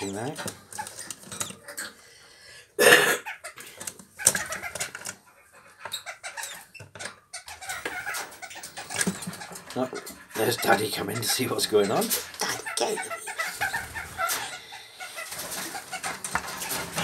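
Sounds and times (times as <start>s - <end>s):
parakeet calls and chatter: 0.0s - 2.5s, 3.2s - 17.0s.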